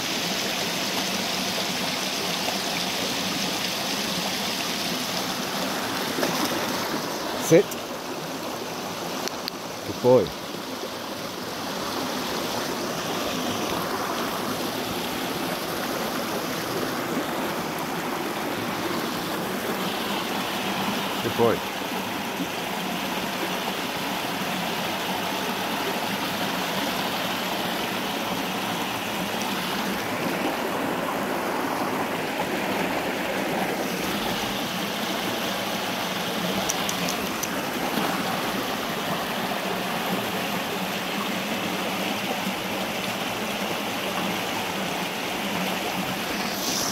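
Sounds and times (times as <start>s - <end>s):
river rushing over stones: 0.0s - 46.9s.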